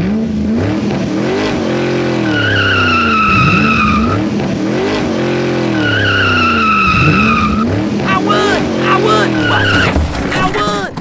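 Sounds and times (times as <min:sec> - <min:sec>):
race car engines revving: 0:00.0 - 0:11.0
tire squeals: 0:00.6 - 0:11.0.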